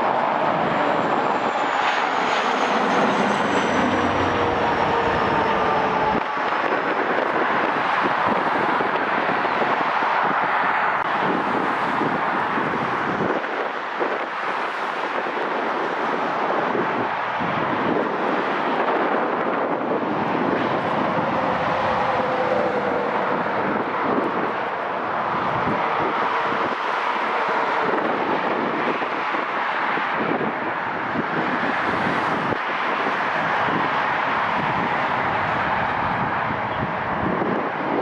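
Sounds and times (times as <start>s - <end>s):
airplane engines passing: 0.0s - 38.0s
wind blowing on microphone: 0.0s - 38.0s.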